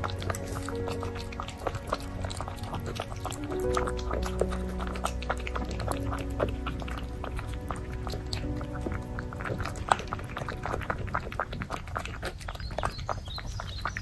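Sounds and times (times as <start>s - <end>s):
puppy chewing food: 0.0s - 14.0s.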